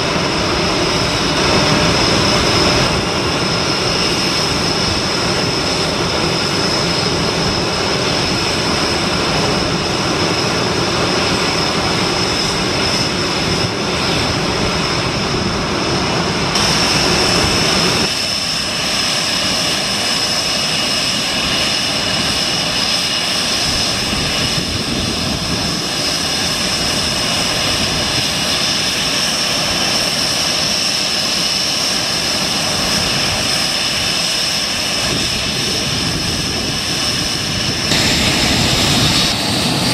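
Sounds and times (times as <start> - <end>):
high-pitched jet whine: 0.0 - 39.9
jet engines roaring: 0.0 - 39.9.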